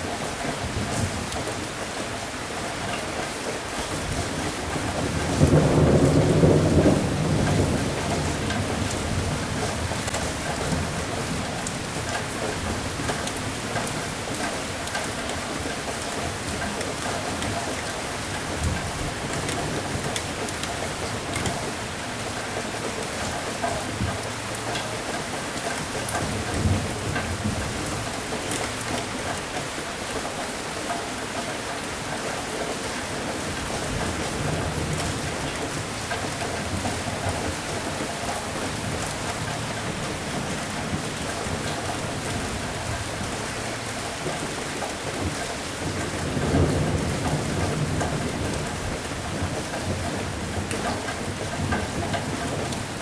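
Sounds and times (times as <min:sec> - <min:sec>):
heavy rain: 0:00.0 - 0:53.0
thunder rumbling: 0:03.7 - 0:30.6, 0:32.8 - 0:53.0.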